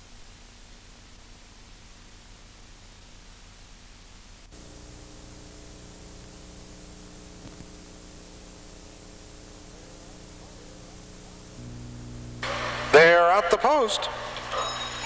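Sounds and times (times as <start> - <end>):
electrical hum: 0.0 - 15.0
video tape hiss and static: 0.0 - 15.0.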